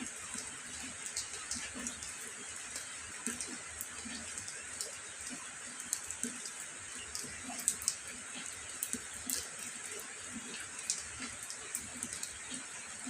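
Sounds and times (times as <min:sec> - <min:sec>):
raindrops tapping: 0:00.2 - 0:13.0.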